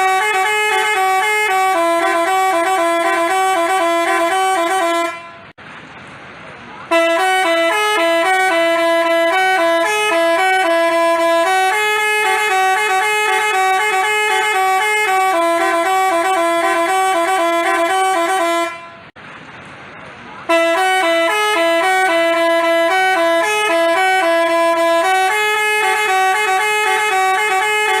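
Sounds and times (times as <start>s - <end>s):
musical bus horn playing a tune: 0.0s - 5.6s, 6.9s - 19.2s, 20.5s - 28.0s.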